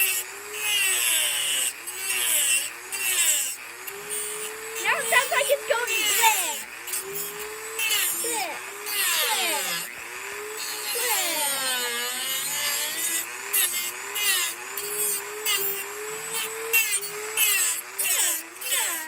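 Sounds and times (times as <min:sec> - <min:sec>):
rasping wood cutting: 0:00.0 - 0:19.0
rotary tool motor whine: 0:00.0 - 0:19.0.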